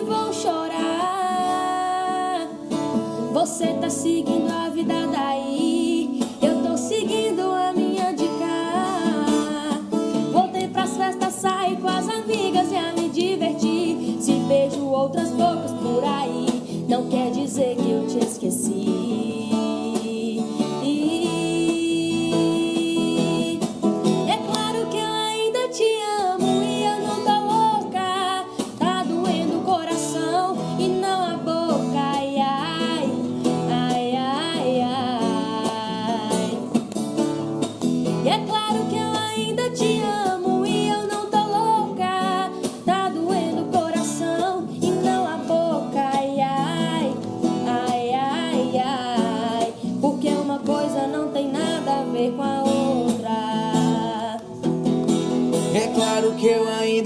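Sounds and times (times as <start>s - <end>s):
woman singing: 0.0s - 54.7s
acoustic guitar chords: 0.0s - 57.0s.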